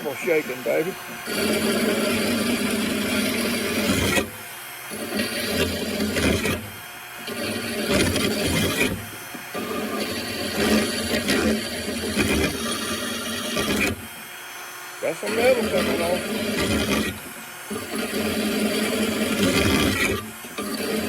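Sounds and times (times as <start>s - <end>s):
drill grinding metal blade: 0.0s - 21.0s.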